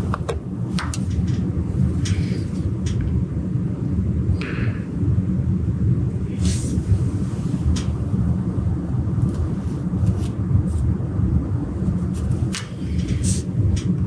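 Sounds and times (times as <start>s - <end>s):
low shop rumble: 0.0s - 14.0s.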